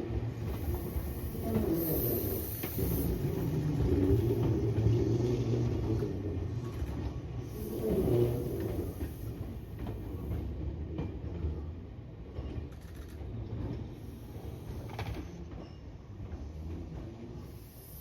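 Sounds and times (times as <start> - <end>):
electric train rumbling on track: 0.0 - 18.0.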